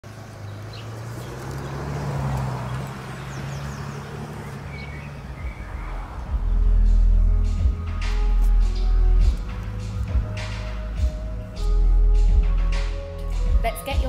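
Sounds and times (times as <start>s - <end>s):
birds chirping: 0.0s - 14.0s
car engine hum: 0.0s - 14.0s.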